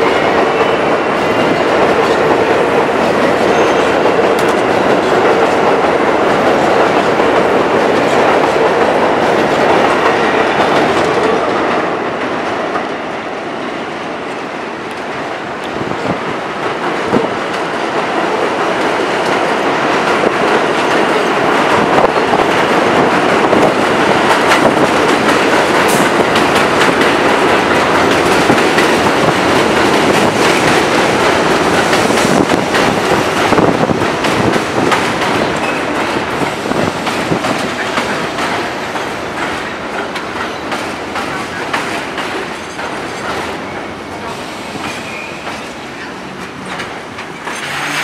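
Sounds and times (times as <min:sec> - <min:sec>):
wheels clacking over rail joints: 0:00.0 - 0:13.0, 0:14.3 - 0:48.0
subway train wheels rumbling: 0:00.0 - 0:48.0.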